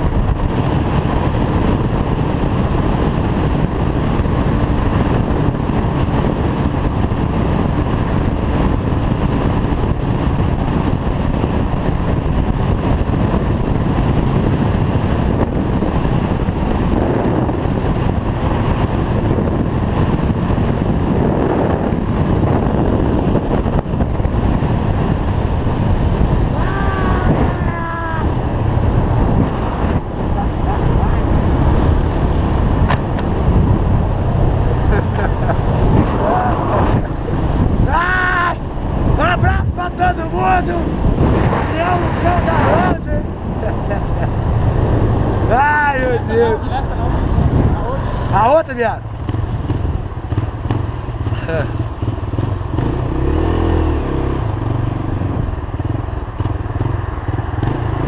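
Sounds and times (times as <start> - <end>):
motorcycle engine: 0.0 - 58.0
wind rush on microphone: 0.0 - 58.0.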